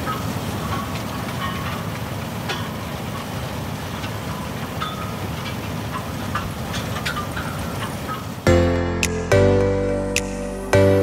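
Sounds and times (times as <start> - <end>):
farm machinery rumbling: 0.0 - 9.4.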